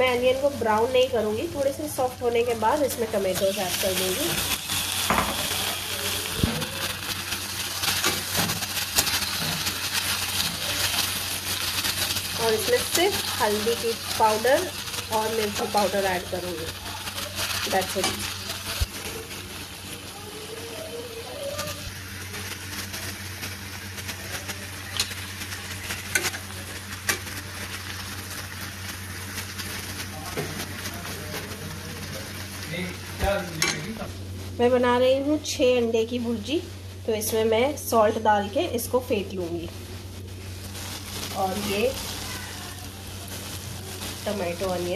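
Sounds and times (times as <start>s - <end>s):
vegetables sizzling in a pan: 0.0s - 44.9s.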